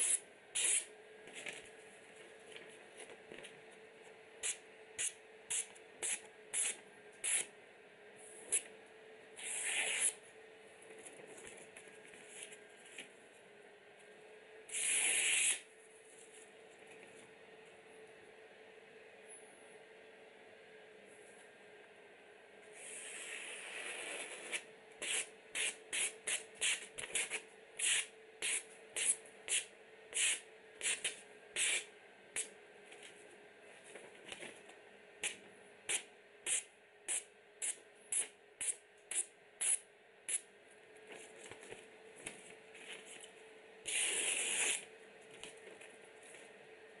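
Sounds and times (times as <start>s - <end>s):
computer fan hum: 0.0s - 47.0s.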